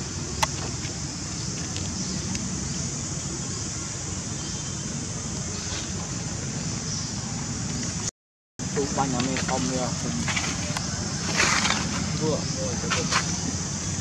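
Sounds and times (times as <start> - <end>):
constant high hiss: 0.0 - 14.0.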